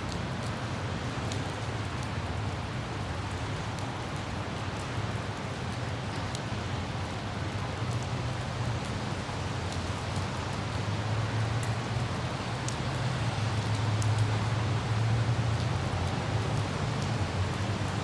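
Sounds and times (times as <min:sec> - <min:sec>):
light rain falling: 0:00.0 - 0:18.0
wind: 0:00.0 - 0:18.0.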